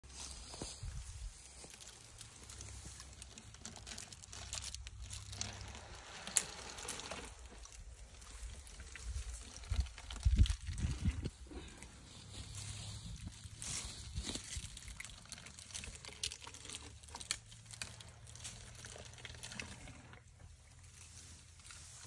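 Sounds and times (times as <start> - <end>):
leaves and twigs rustling: 0.0 - 22.0.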